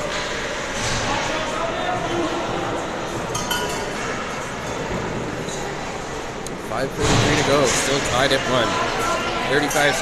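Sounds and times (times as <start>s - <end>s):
indistinct chatter: 0.0s - 10.0s.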